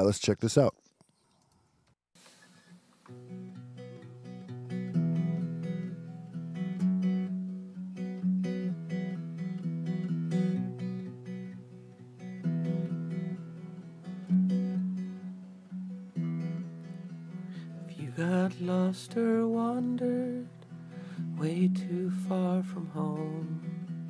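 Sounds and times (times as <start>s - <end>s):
guitar strumming chords: 3.1s - 24.0s.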